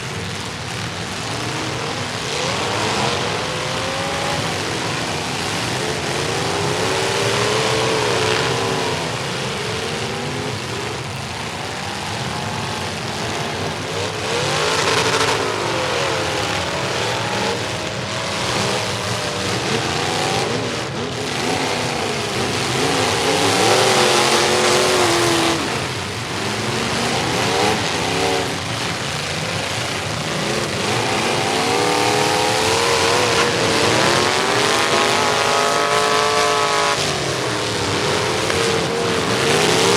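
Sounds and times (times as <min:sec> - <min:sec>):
constant noisy roar: 0:00.0 - 0:39.9
truck engines revving: 0:00.0 - 0:39.9.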